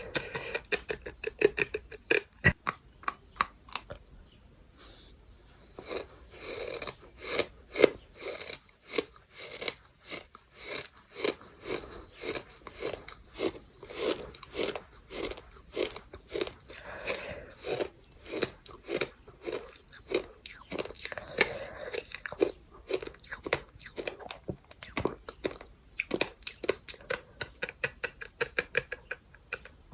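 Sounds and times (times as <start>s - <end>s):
chewing gritty sand crunches: 0.0s - 4.1s, 5.6s - 29.7s.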